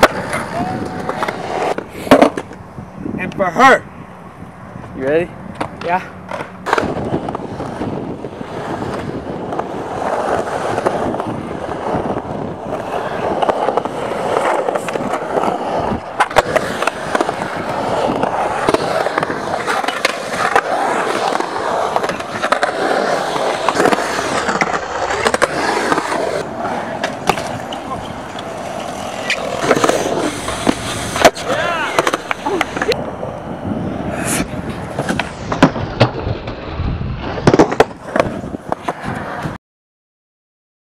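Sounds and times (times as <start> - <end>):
skateboard clacking on concrete: 0.0 - 2.6, 5.5 - 33.2, 34.1 - 36.3, 37.2 - 39.6
skateboard wheels rolling on concrete: 0.0 - 39.6.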